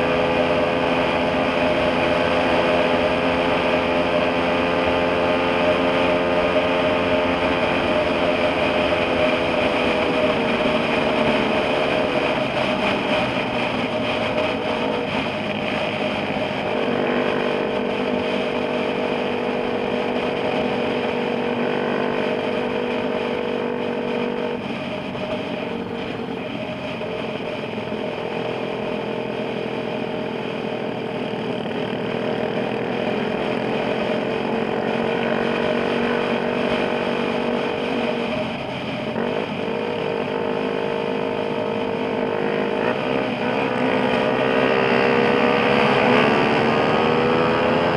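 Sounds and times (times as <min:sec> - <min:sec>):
motorcycle engine running: 0:00.0 - 0:47.9
road noise: 0:00.0 - 0:47.9.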